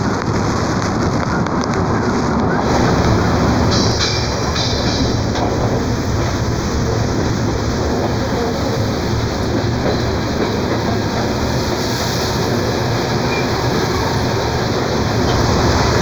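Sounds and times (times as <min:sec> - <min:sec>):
heavy rain: 0:00.0 - 0:16.0
rushing air: 0:00.0 - 0:16.0
train wheels on rail: 0:00.0 - 0:16.0.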